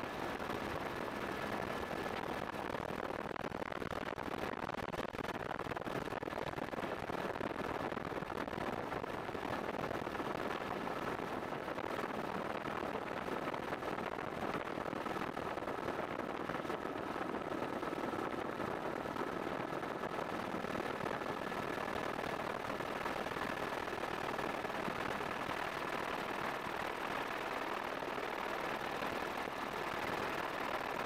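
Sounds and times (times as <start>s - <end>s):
faint steady whine: 0.0s - 31.0s.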